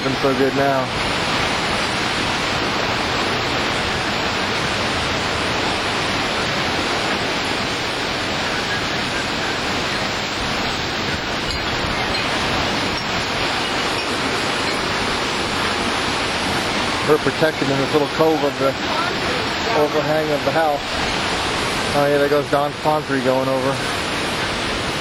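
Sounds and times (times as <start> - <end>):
driving rain: 0.0 - 25.0
hurricane wind: 0.0 - 25.0.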